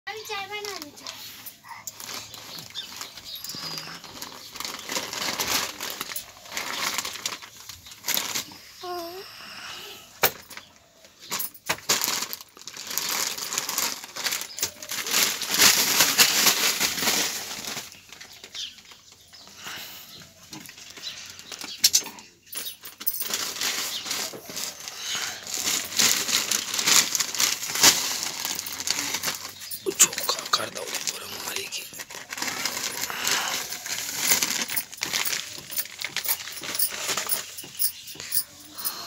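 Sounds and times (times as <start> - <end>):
plastic bags crinkling: 0.1 - 9.2, 10.3 - 39.0.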